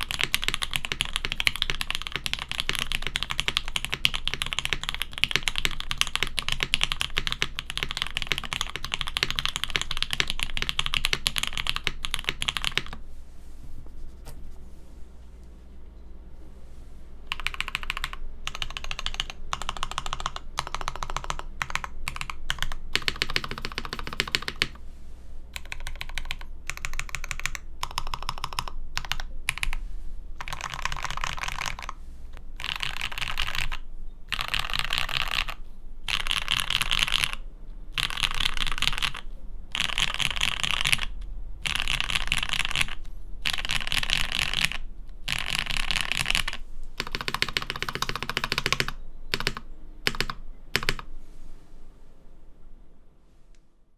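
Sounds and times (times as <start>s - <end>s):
fast typing on mechanical keyboard: 0.0s - 13.0s, 17.3s - 24.8s, 25.6s - 29.8s, 30.4s - 32.0s, 32.6s - 51.1s.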